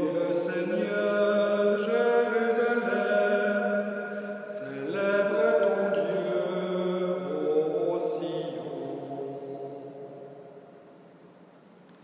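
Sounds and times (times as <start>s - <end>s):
man chanting: 0.0s - 10.6s.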